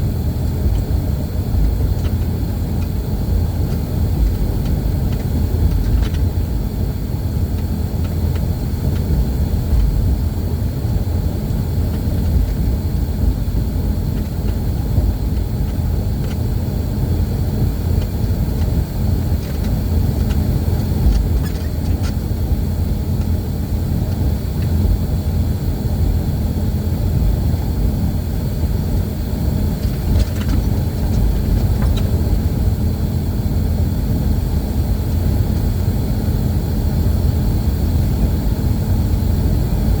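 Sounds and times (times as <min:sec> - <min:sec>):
vehicle engine and road rumble: 0:00.0 - 0:40.0.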